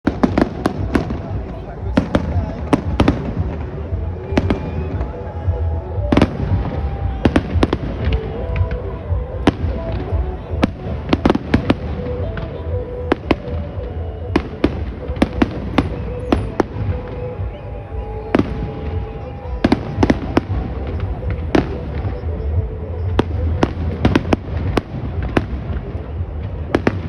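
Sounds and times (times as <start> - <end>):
fireworks bangs and cracks: 0.0 - 27.0.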